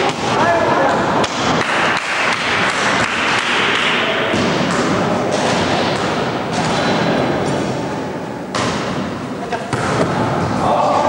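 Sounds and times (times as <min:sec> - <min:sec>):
loud steady hall din: 0:00.0 - 0:11.0
players' voices echoing: 0:00.0 - 0:11.0
volleyball thuds: 0:01.2 - 0:07.8, 0:08.4 - 0:11.0.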